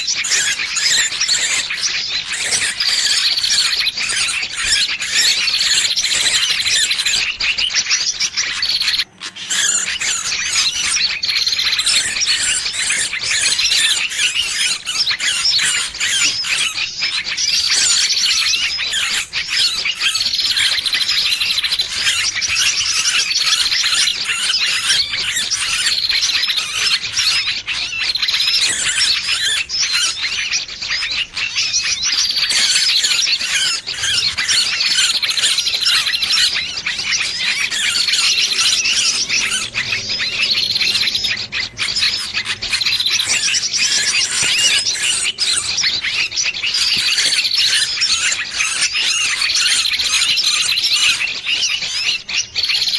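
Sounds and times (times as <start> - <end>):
small birds distress calls: 0.0 - 52.9.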